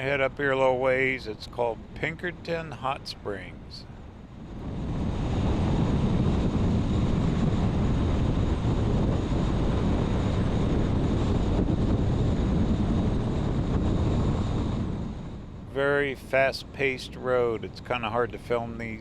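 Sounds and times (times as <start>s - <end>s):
vehicle road and wind noise: 0.0s - 19.0s.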